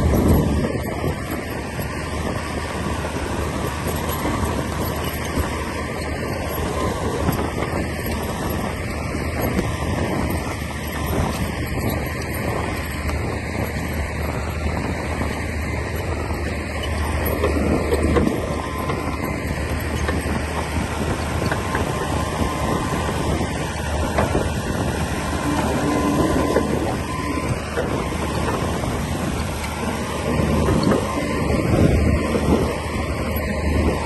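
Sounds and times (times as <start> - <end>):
bulldozer diesel engine clattering: 0.0 - 34.0.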